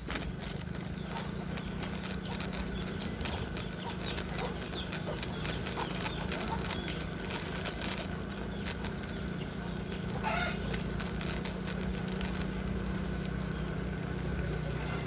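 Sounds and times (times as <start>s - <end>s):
rapid clicking rattle: 0.0s - 14.8s
small motorcycle engine running: 0.0s - 15.0s.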